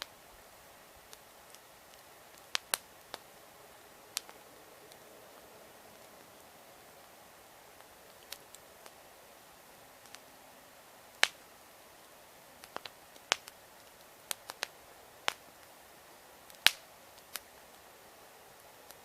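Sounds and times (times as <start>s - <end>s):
campfire crackling: 0.0s - 19.0s
faint steady hiss: 0.0s - 19.0s.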